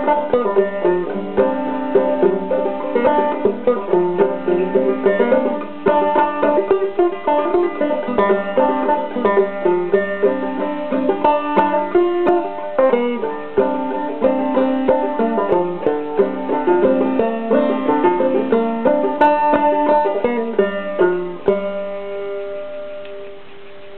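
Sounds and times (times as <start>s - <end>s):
banjo plucked tune: 0.0s - 23.5s.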